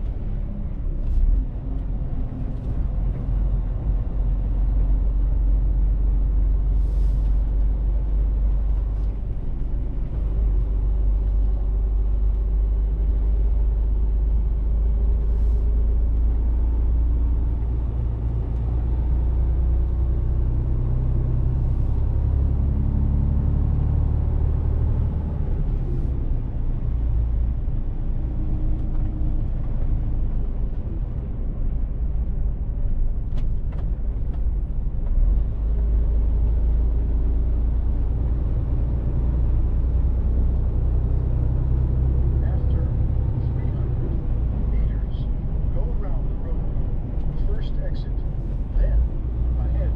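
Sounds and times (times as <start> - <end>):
truck diesel engine rumbling: 0.0 - 49.9.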